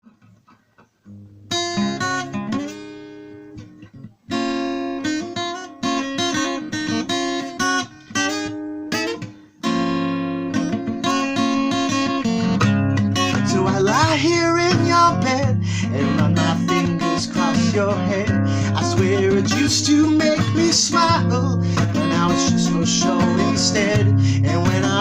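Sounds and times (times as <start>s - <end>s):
acoustic guitar strumming chords: 1.1s - 25.0s.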